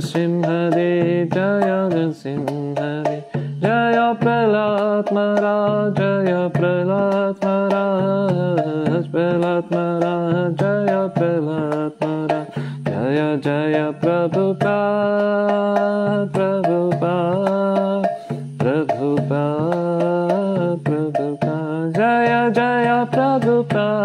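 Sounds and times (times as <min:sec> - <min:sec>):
man singing prayer chant: 0:00.0 - 0:24.0.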